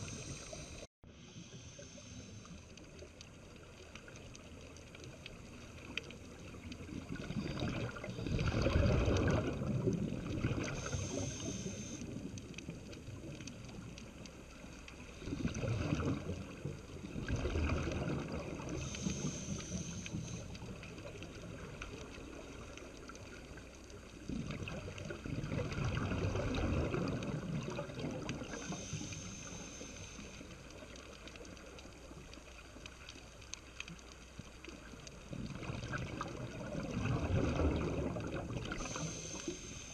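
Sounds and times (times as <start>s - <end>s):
scuba breathing bubbles: 0.0s - 3.2s, 5.4s - 32.6s, 34.6s - 39.9s
underwater wash: 0.0s - 39.9s.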